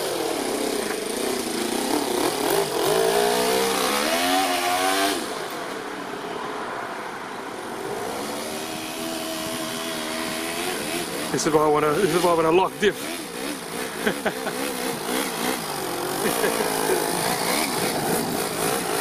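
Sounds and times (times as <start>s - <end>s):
model truck engine revving: 0.0s - 5.3s, 8.0s - 19.0s.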